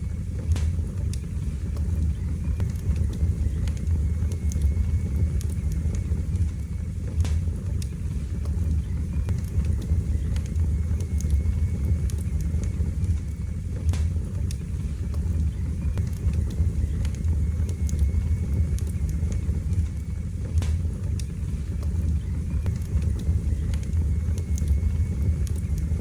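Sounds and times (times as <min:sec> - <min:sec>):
fire burning in fireplace: 0:00.0 - 0:26.0.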